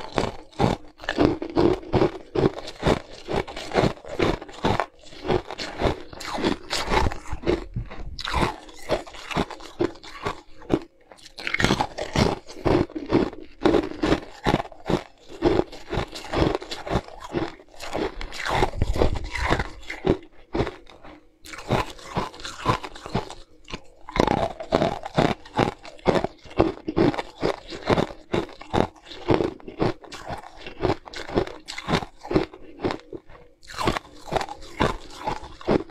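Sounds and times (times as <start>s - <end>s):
crunching ice between teeth: 0.0s - 35.9s.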